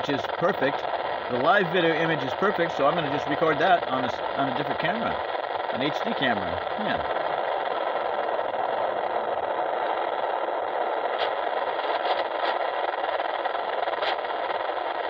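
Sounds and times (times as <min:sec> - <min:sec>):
thin rushing hiss: 0:00.0 - 0:15.0.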